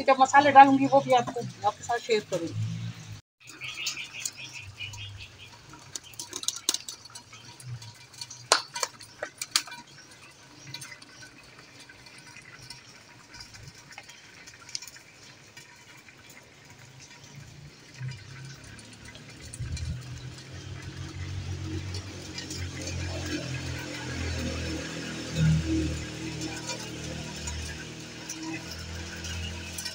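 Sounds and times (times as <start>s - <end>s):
sharp clicks and ticks: 0.0s - 29.9s
light rain falling: 2.6s - 29.9s.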